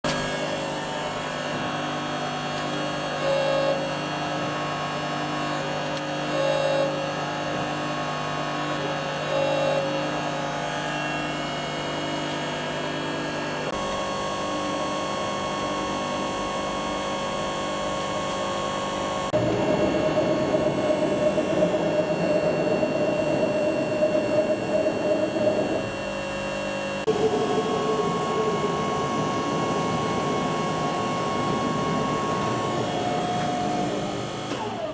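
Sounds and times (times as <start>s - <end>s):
punching machine humming: 0.0s - 34.9s.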